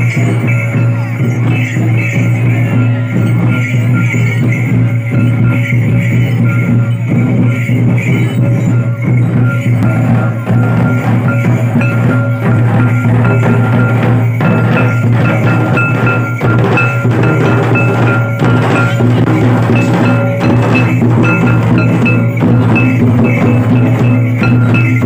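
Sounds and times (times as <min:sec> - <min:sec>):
barrel drums drumming: 0:00.0 - 0:25.0.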